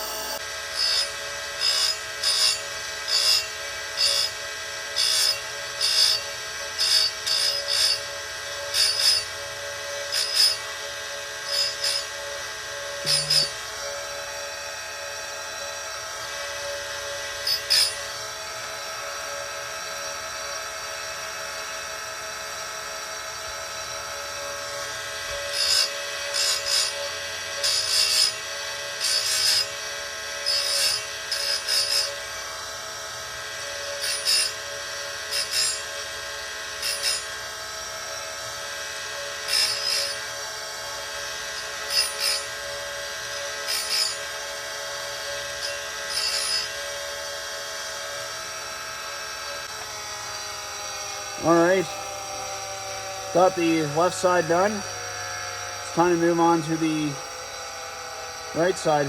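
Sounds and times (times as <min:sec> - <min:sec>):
grinder motor humming and whining: 0:00.0 - 0:59.0
grinding wheel on chain cutters: 0:00.0 - 0:59.0.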